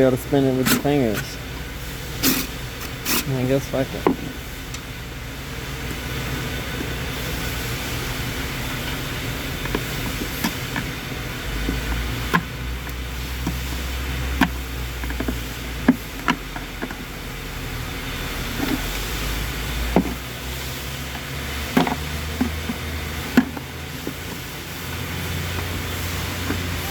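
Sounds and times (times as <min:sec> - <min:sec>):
low mechanical hum: 0:00.0 - 0:26.9.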